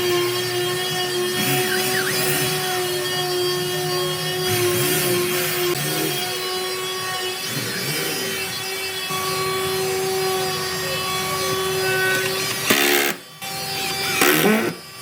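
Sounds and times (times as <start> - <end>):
power tool working wood: 0.0 - 15.0.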